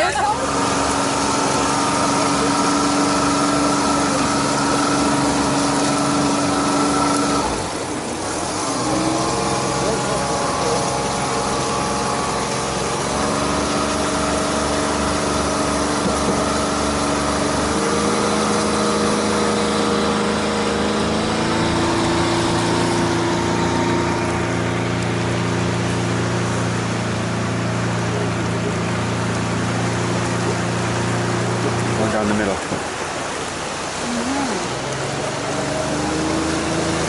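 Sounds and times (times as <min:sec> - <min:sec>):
outboard motor running: 0:00.0 - 0:37.0.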